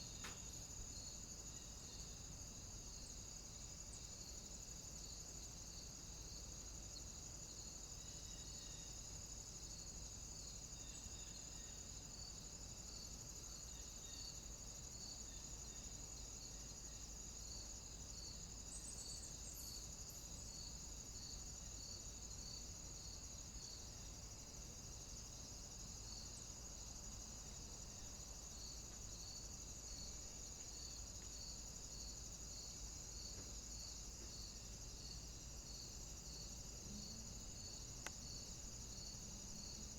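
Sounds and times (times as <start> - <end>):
cicadas droning: 0.0 - 39.9
insect chirping: 0.0 - 39.9.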